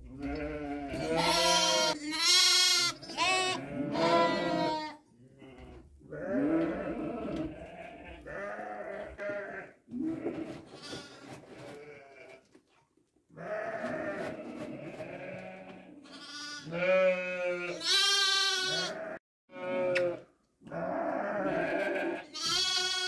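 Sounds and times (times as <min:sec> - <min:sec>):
lambs bleating: 0:00.2 - 0:10.2, 0:13.4 - 0:14.2, 0:14.8 - 0:23.0.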